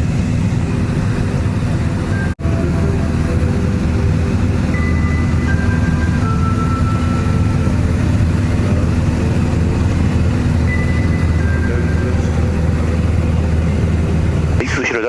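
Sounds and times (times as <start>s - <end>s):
plane engine and propeller: 0.0s - 15.0s.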